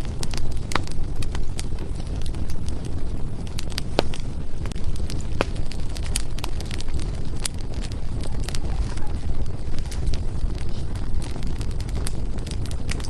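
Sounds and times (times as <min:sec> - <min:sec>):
fireplace crackling and popping: 0:00.0 - 0:13.0
loud fire snaps: 0:00.0 - 0:13.0.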